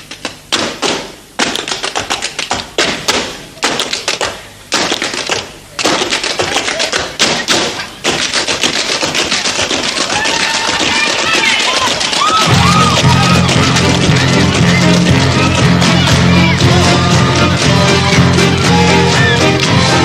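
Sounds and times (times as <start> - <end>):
tap shoes tapping: 0.0 - 20.0.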